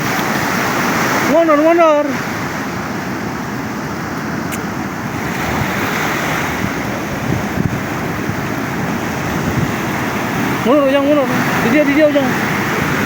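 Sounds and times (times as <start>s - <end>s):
sea surf washing on shore: 0.0s - 13.0s
wind buffeting microphone: 0.0s - 13.0s.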